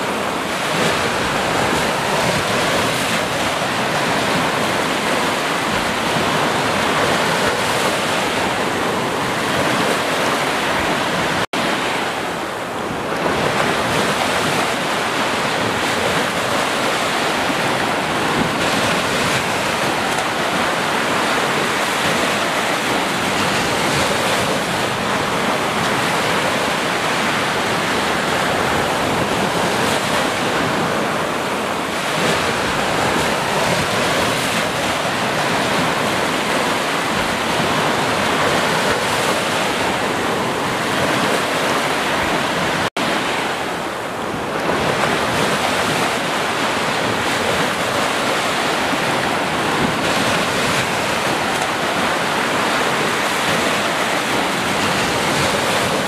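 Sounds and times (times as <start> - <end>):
small waves breaking on a beach: 0.0 - 56.0.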